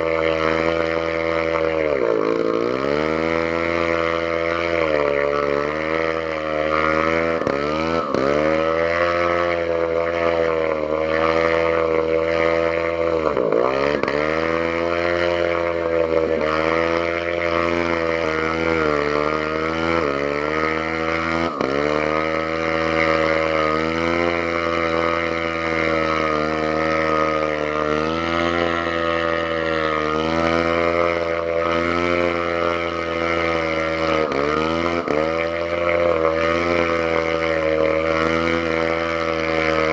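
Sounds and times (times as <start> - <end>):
engine stumbling and sputtering: 0.0 - 39.9.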